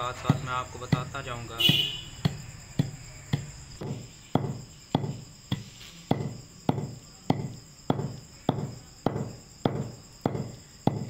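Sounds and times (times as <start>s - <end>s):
pestle pounding in stone mortar: 0.0s - 11.0s.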